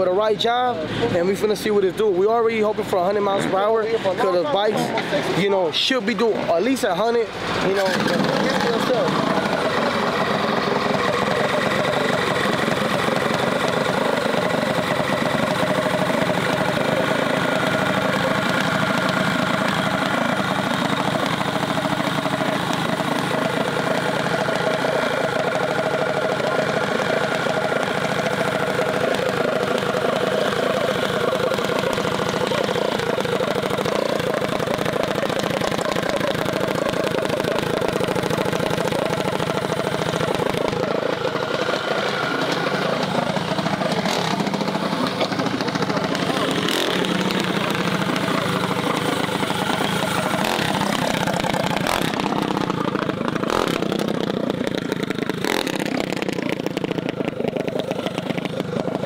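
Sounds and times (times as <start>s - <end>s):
small engine idling: 0.0s - 59.0s.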